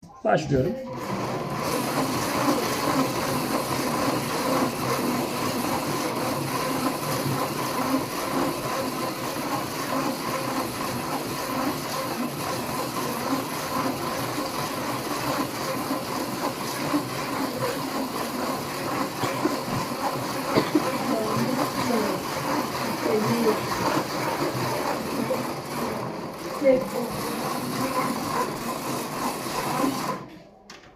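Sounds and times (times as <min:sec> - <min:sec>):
electric motor whirring: 0:00.7 - 0:30.3.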